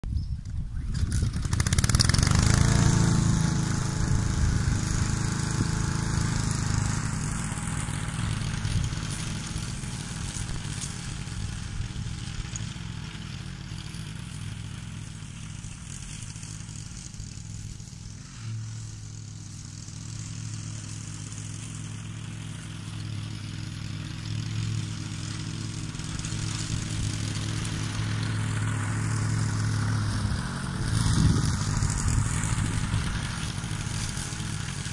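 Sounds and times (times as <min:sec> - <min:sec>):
lawn mower engine cutting grass: 0:00.3 - 0:34.9.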